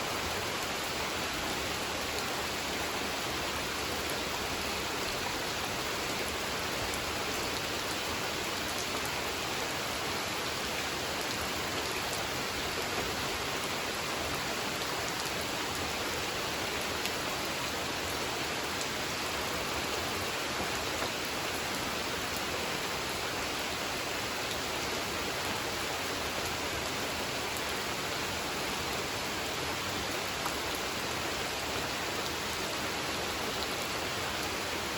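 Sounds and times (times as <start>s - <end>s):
rain falling on a pond: 0.0s - 34.9s.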